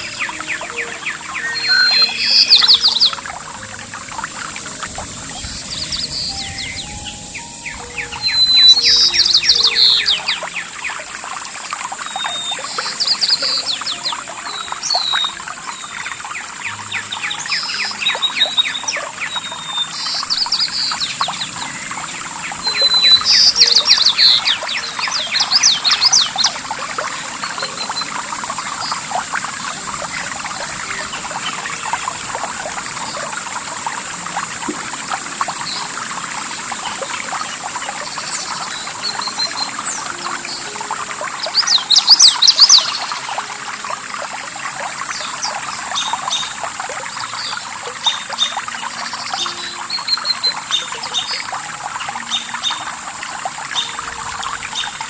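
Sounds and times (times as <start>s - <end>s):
songbirds chirping: 0.0s - 55.0s
water trickling and splashing: 0.0s - 55.0s.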